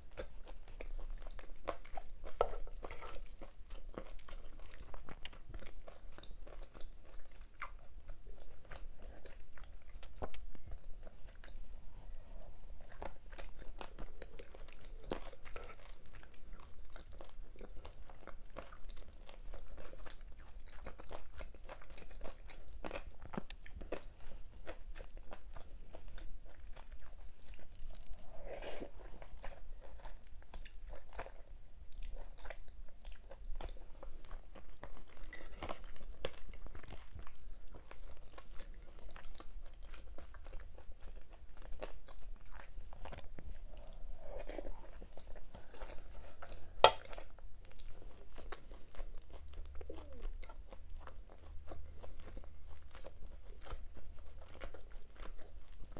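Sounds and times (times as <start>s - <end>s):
person chewing: 0.0s - 55.9s.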